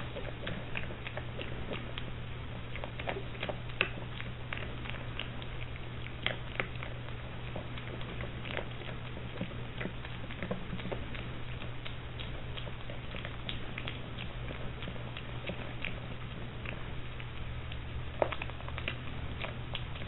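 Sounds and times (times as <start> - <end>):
piglet crunching pellet food: 0.0 - 20.0
steady low hum: 0.0 - 20.0.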